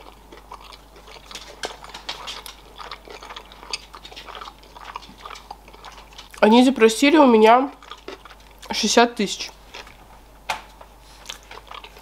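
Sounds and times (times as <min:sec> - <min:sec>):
person chewing food: 0:00.0 - 0:08.8, 0:09.4 - 0:12.0.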